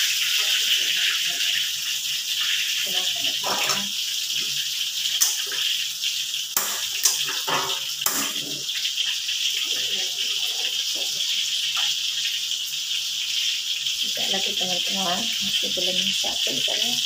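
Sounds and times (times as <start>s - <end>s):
food frying in hot oil: 0.0s - 17.0s.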